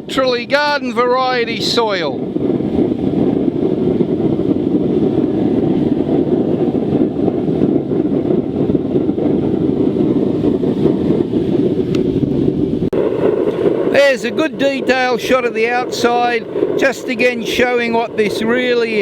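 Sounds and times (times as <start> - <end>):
roar of burner flame: 0.3 - 19.0.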